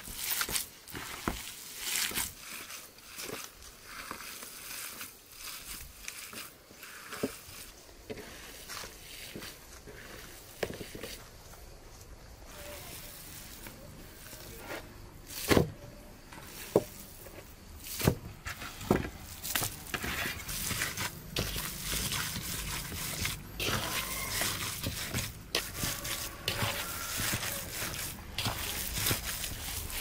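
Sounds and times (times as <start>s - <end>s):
hands kneading wet mince: 0.0s - 30.0s.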